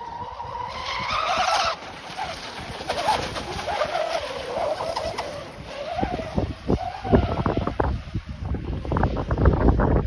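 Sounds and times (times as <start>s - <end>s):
model boat motor whining: 0.0s - 8.3s.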